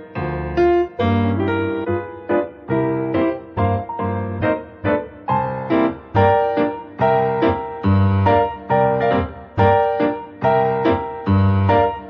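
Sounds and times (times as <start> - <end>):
piano notes and chords: 0.0 - 12.0.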